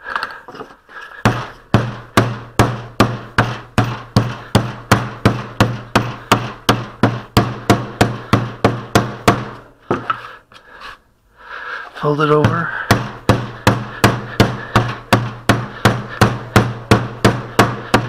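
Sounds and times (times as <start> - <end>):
wooden mallet beating putty: 1.2 - 10.0, 12.3 - 18.0.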